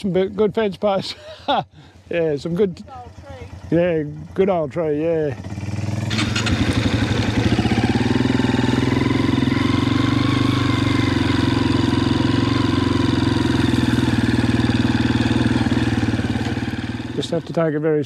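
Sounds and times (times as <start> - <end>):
quad bike engine running: 2.1 - 18.0.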